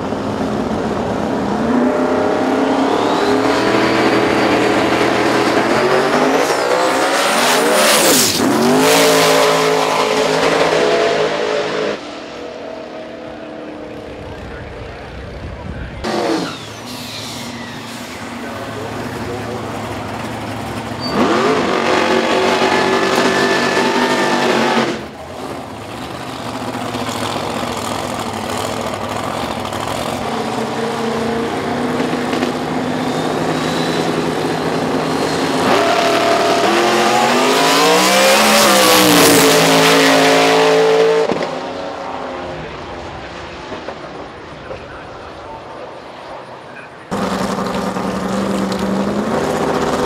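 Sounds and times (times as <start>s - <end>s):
drag race cars at full throttle: 0.0s - 50.0s.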